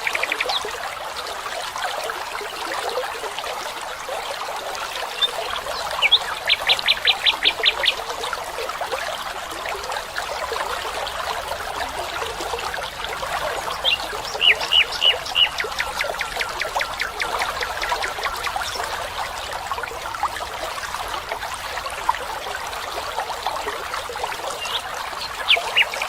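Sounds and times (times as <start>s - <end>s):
stream trickling: 0.0s - 26.0s.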